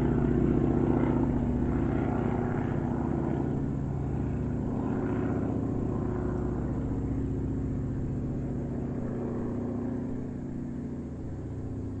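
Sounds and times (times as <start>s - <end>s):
airplane engine drone: 0.0s - 12.0s.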